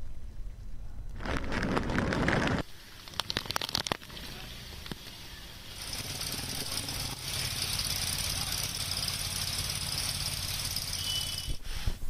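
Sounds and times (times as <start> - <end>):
engine rumbling: 0.0 - 12.0
steady hiss: 2.3 - 12.0.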